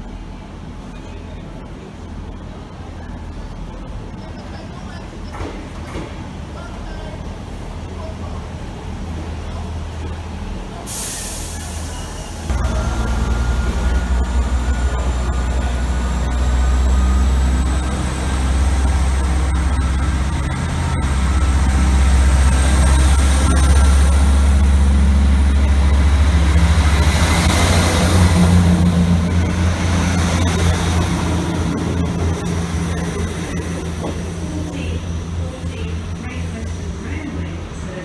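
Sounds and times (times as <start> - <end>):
diesel train engines droning: 0.0 - 38.0
rush of passing carriages: 7.2 - 38.0.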